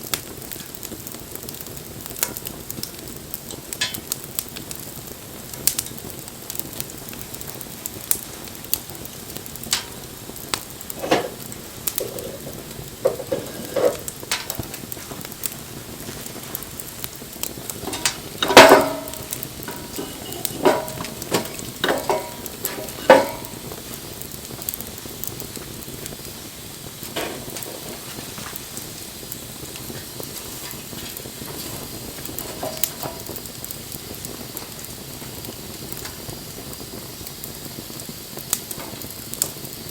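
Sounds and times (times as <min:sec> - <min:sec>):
fire crackling and popping: 0:00.0 - 0:39.9
wood fire hissing: 0:00.0 - 0:39.9.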